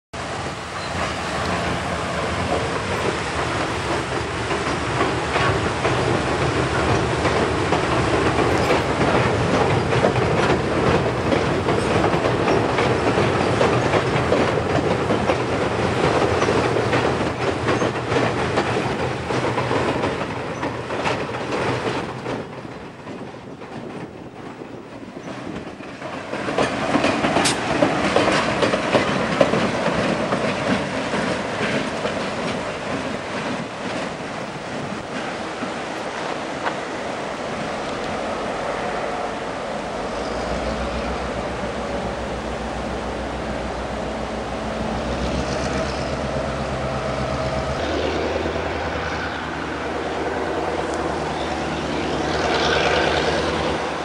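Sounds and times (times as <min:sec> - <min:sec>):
train wheels clicking over rail joints: 0:00.2 - 0:39.1, 0:39.7 - 0:54.0
diesel locomotive pushing: 0:00.2 - 0:54.0.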